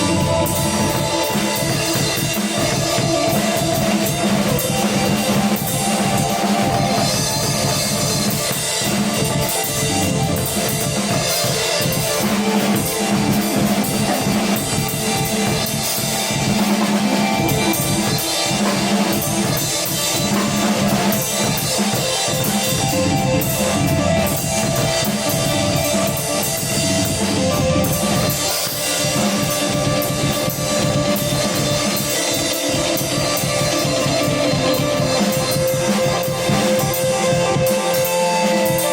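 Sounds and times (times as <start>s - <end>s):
drum kit steady beat: 0.0s - 38.9s
guitar: 0.0s - 38.9s.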